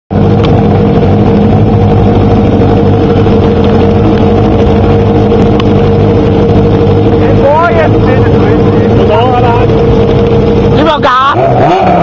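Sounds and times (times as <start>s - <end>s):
engine revving high: 0.2s - 12.0s.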